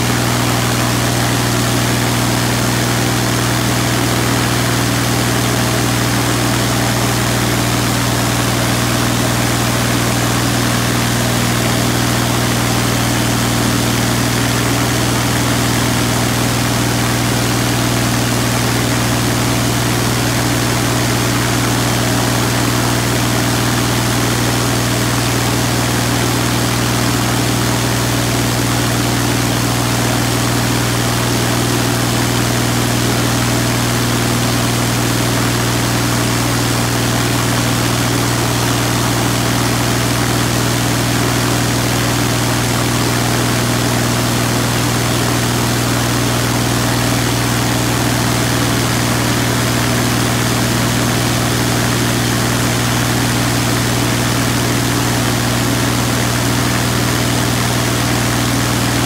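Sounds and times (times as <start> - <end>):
aircraft engine and propeller running: 0.0 - 59.0.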